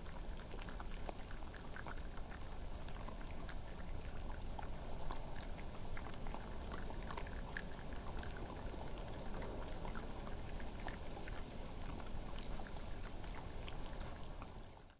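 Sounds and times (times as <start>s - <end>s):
animals munching peanuts: 0.0s - 14.9s
low background hiss: 0.0s - 14.9s.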